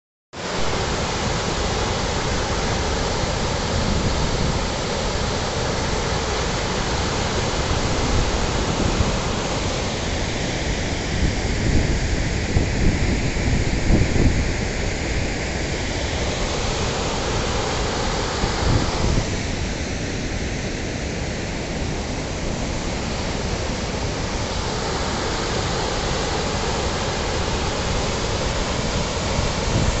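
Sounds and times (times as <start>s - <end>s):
floodwater rushing over a weir: 0.4s - 30.0s.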